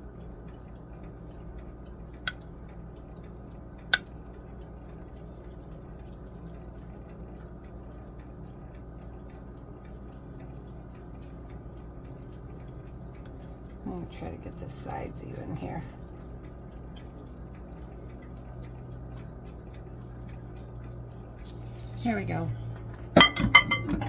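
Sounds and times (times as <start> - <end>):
steady low hum: 0.0 - 24.0
fast mechanical ticking: 1.3 - 23.3.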